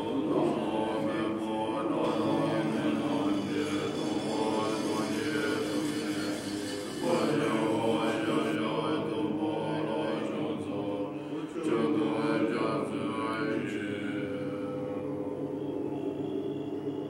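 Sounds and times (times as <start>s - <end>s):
monks chanting: 0.0s - 17.0s.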